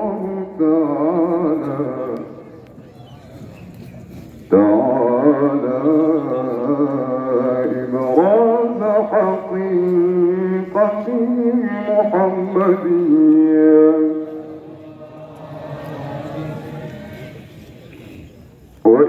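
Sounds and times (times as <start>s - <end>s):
man chanting into microphone: 0.0s - 2.6s, 4.5s - 17.5s.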